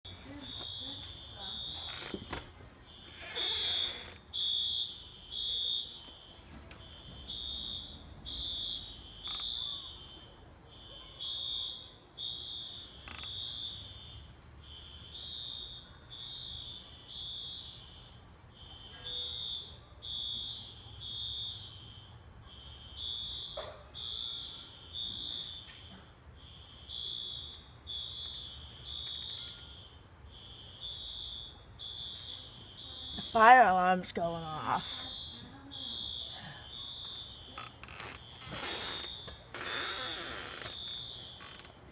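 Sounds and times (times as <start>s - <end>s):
fire alarms beeping: 0.1s - 41.9s.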